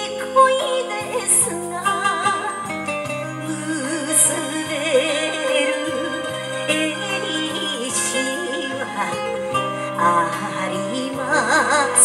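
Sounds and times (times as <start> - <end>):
orchestral backing: 0.0 - 12.0
woman singing with vibrato: 0.0 - 12.0.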